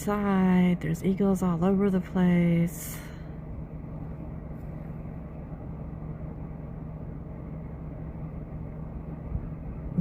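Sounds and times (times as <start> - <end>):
car cabin hum and rumble: 0.0 - 10.0.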